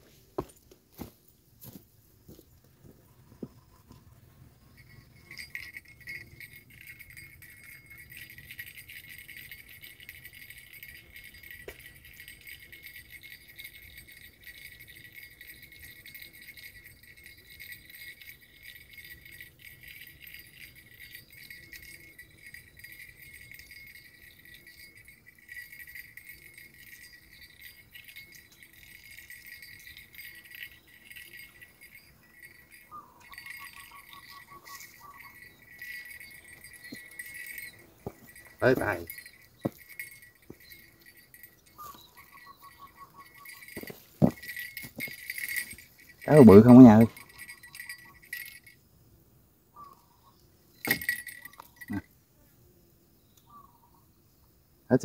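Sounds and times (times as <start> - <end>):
insect chorus buzzing: 1.0 - 55.0.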